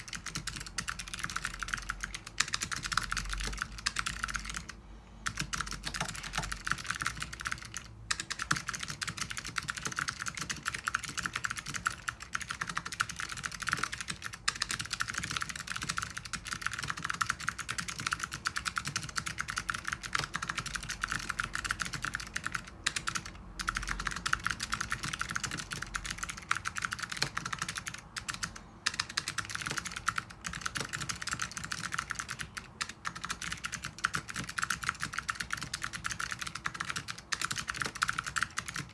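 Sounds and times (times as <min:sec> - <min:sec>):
fast typing on clicky keyboard: 0:00.0 - 0:38.9.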